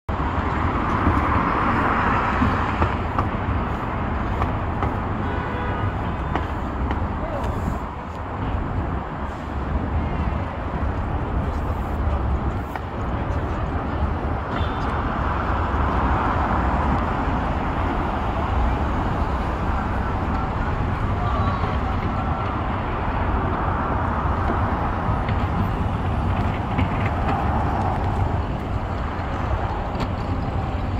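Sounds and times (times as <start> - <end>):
cars passing: 0.1 - 30.9
city street traffic rumble: 0.1 - 30.9.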